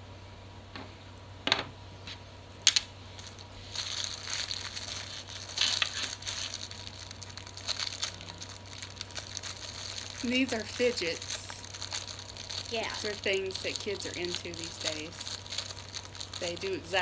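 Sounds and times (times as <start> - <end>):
plastic packaging crinkling: 2.4 - 17.0.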